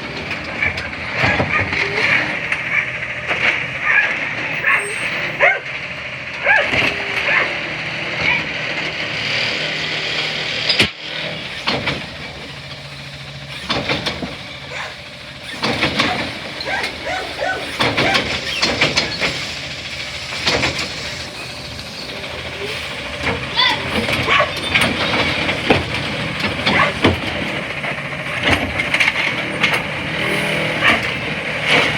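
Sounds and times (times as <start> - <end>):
clanks and knocks: 0.0 - 31.9
garbage truck running: 0.0 - 31.9.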